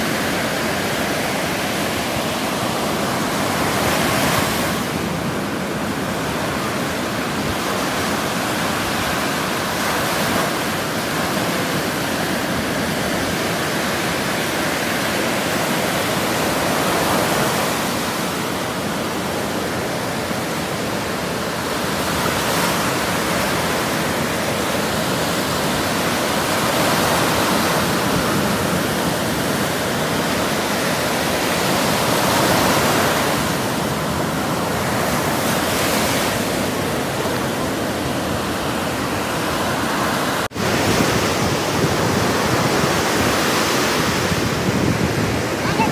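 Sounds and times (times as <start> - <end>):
sea surf breaking on shore: 0.0 - 45.9.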